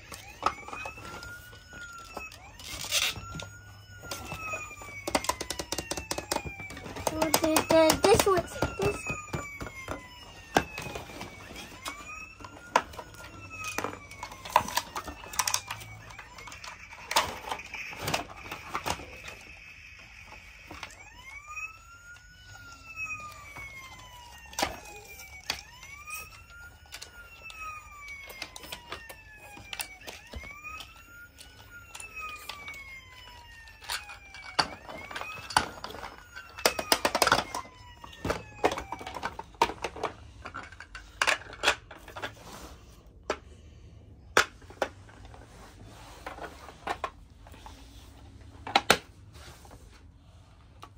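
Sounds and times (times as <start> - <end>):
plastic toy and cardboard handled: 0.0 - 43.6, 44.3 - 50.9
toy siren wailing: 0.0 - 49.0.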